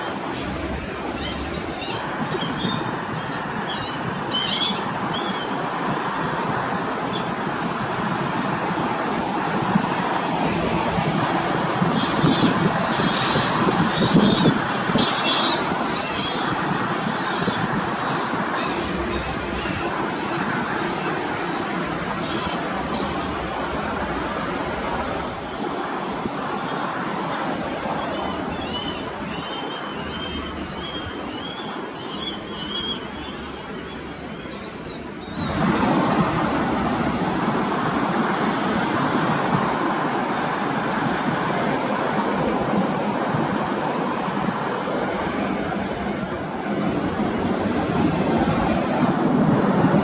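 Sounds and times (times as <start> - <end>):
jet engine roar: 0.0 - 50.0.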